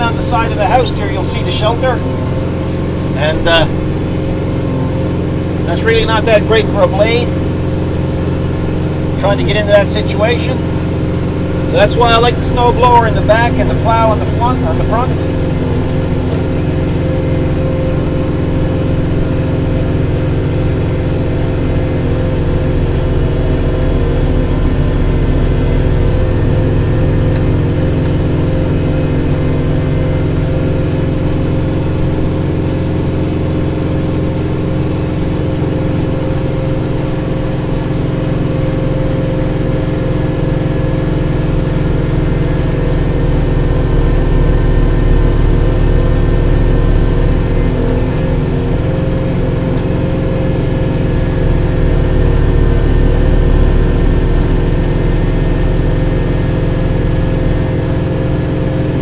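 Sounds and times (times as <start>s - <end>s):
diesel tractor running: 0.0s - 59.0s
snowblower running: 0.0s - 59.0s.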